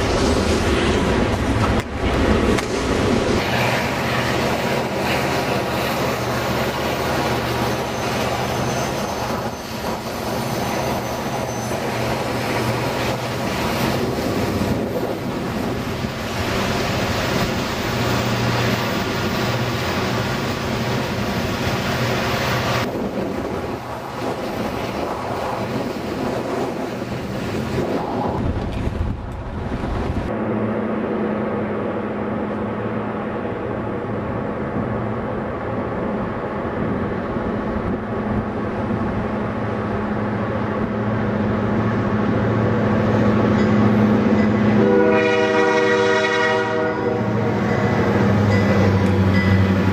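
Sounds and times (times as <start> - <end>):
freight train running: 0.0 - 49.9.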